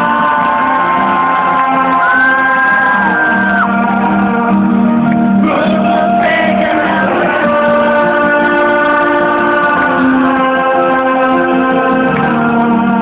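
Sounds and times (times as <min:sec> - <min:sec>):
live band playing slow ballad: 0:00.0 - 0:13.0.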